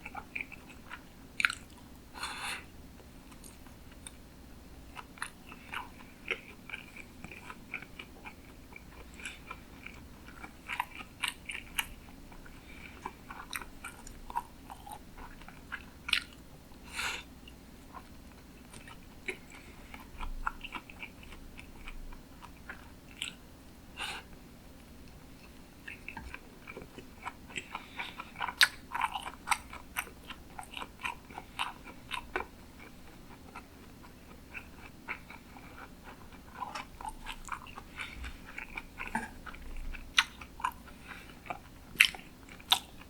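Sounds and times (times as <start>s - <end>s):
close chewing with mouth clicks: 0.0s - 4.2s, 4.9s - 43.0s.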